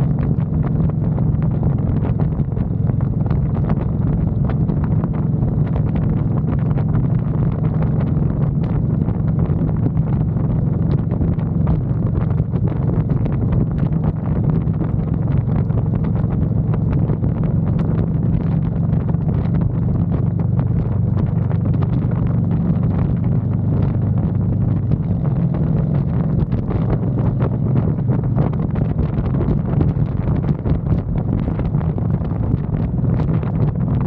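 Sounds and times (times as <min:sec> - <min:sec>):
motorcycle engine cruising: 0:00.0 - 0:34.0
wind buffeting microphone: 0:00.0 - 0:34.0.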